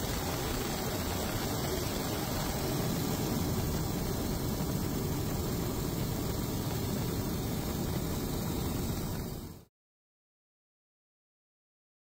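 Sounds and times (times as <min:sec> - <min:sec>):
helicopter engine and rotor drone: 0:00.0 - 0:09.7.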